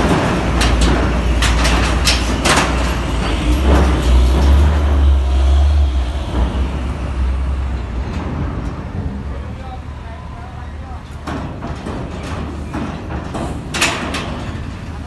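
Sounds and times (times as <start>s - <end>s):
sharp knocks and clanks: 0.0s - 9.8s, 11.0s - 15.0s
diesel engine rumbling: 0.0s - 15.0s.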